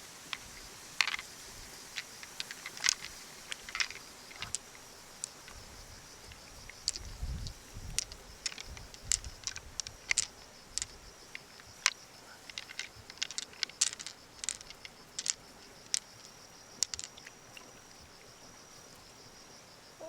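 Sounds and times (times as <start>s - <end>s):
small hard objects clicking: 0.3s - 17.7s.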